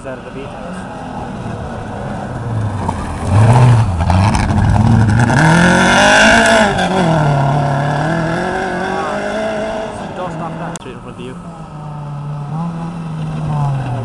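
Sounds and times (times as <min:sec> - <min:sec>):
rally car engine revving: 0:00.2 - 0:14.0.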